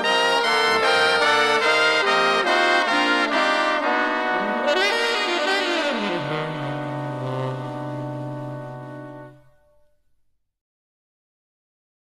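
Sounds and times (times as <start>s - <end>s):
brass section playing chords: 0.0s - 10.0s.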